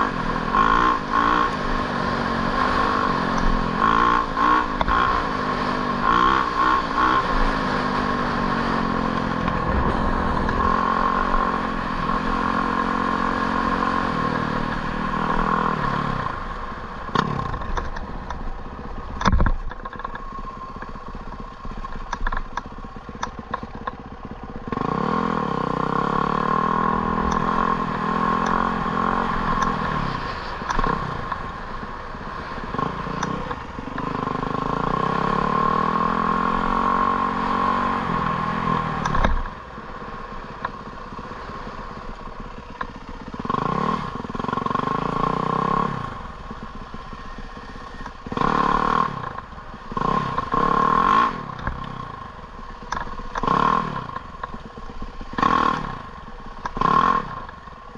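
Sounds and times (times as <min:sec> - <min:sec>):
small engine revving: 0:00.0 - 0:18.4, 0:19.2 - 0:57.9.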